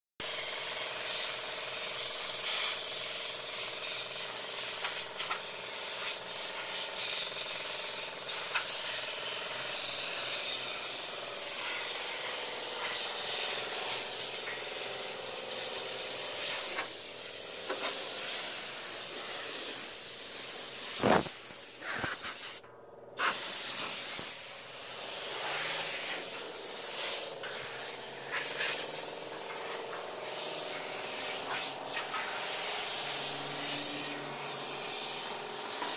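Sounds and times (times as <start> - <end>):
spray gun hissing: 0.2 - 22.6, 23.2 - 35.9.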